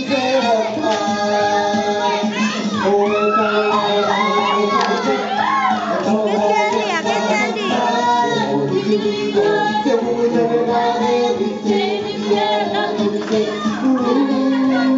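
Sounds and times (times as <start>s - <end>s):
crowded room bustle: 0.0s - 14.9s
group of people singing: 0.0s - 14.9s
music: 0.0s - 14.9s.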